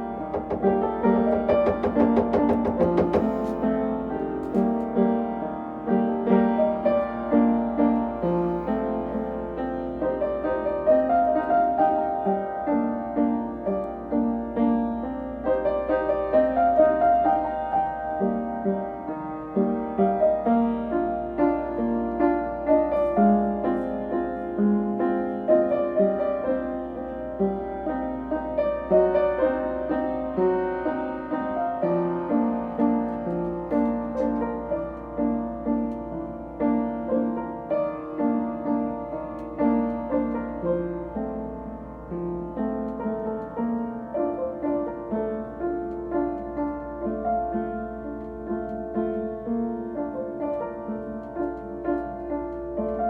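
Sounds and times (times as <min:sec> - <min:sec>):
piano piece: 0:00.0 - 0:53.0.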